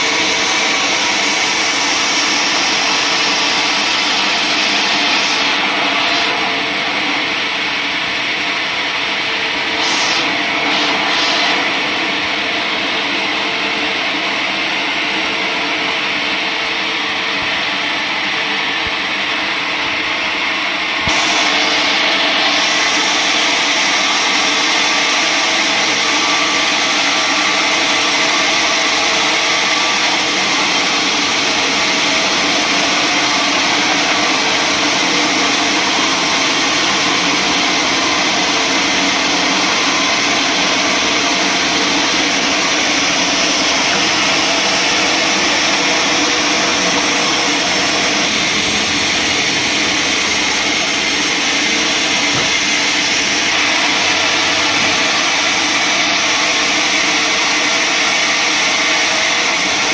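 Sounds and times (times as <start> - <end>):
sawmill saw cutting wood: 0.0 - 59.9.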